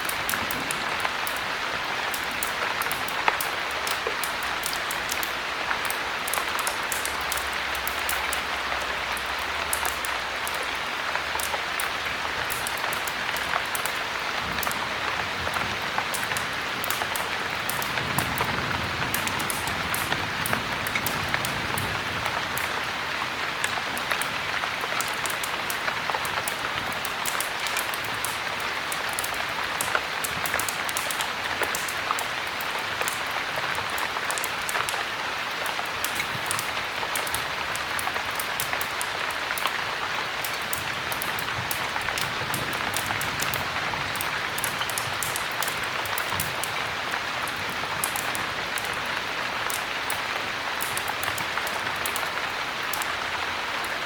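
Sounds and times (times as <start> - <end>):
heavy rain: 0.0 - 54.0
wood fire crackling: 0.0 - 54.0.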